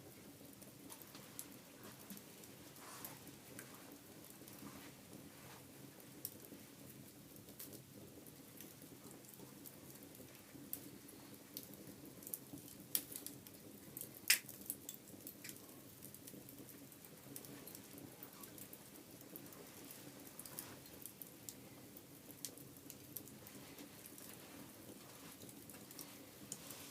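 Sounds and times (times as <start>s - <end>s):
wood fire crackling and popping: 0.0s - 26.9s.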